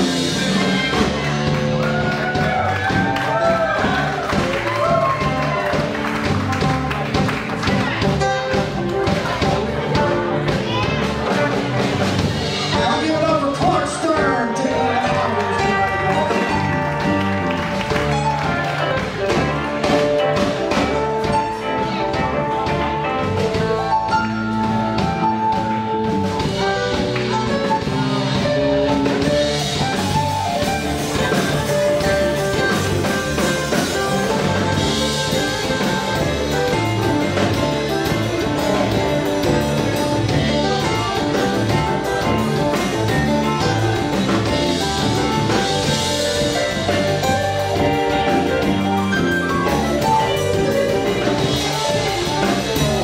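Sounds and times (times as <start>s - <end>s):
drum kit: 0.0s - 53.0s
electric bass: 0.0s - 53.0s
guitar: 0.0s - 53.0s.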